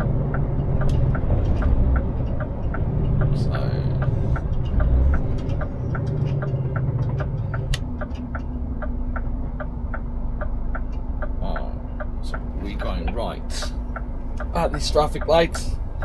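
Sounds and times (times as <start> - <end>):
truck engine running: 0.0 - 16.0
truck turn indicator ticking: 0.0 - 16.0.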